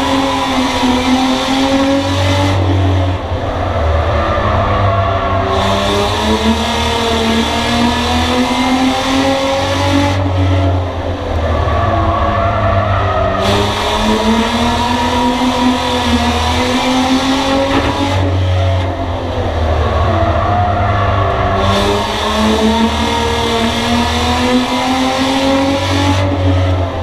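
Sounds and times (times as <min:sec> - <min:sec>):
race car engine accelerating: 0:00.0 - 0:27.0.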